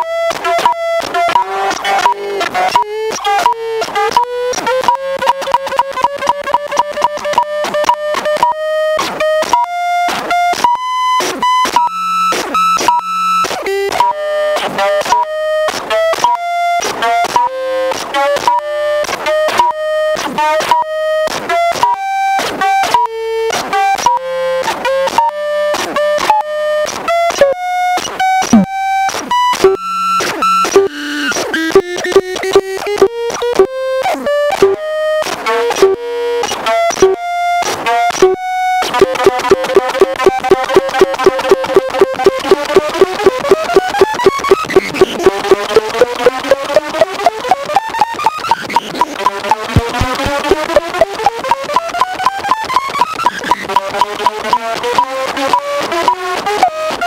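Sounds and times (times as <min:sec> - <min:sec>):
synthesizer buzzy clicking notes: 0:00.0 - 0:22.0, 0:24.9 - 0:57.0.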